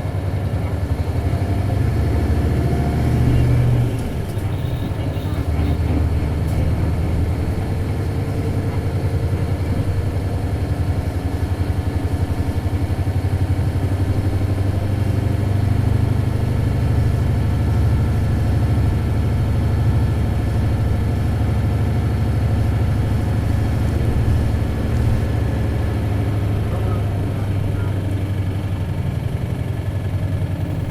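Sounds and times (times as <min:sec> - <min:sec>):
diesel bus engine droning: 0:00.0 - 0:30.9.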